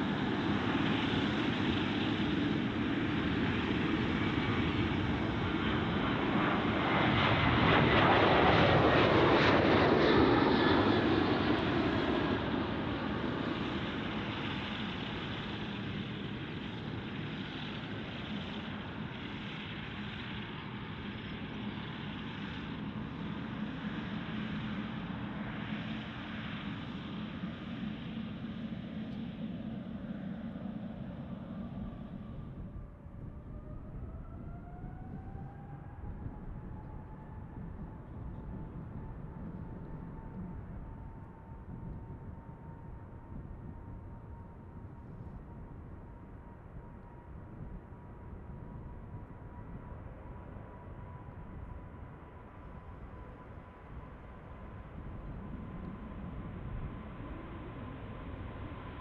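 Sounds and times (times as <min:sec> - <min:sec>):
jet engines rushing and whining: 0:00.0 - 0:59.0.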